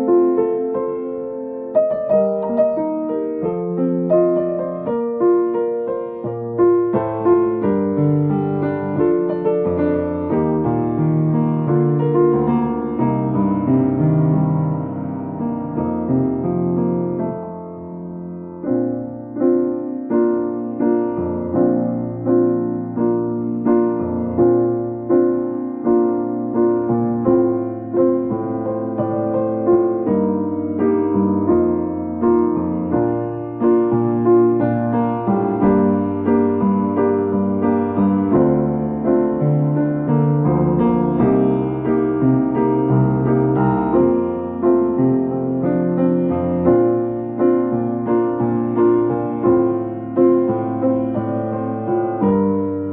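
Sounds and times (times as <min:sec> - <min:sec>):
electric piano music: 0:00.0 - 0:52.9.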